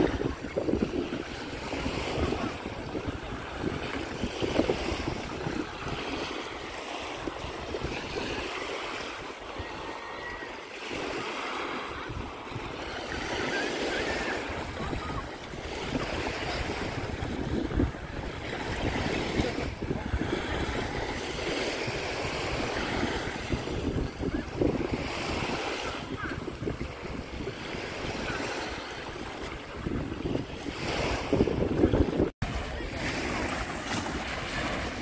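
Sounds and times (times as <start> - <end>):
wind rumble on microphone: 0.0 - 8.5, 14.1 - 35.0
waves washing onto shore: 0.0 - 35.0.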